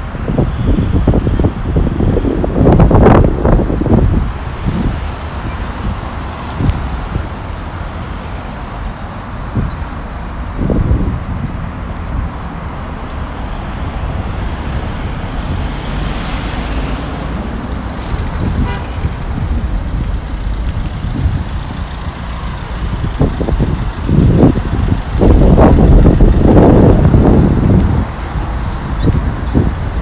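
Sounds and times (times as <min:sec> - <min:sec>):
car engines passing: 0:00.0 - 0:30.0
van passing close: 0:00.0 - 0:30.0.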